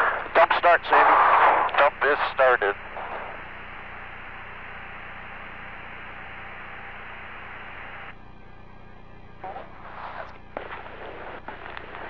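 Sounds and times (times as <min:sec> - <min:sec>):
radio hiss: 0:00.0 - 0:08.2, 0:09.3 - 0:12.0
steady electrical hum: 0:00.0 - 0:12.0.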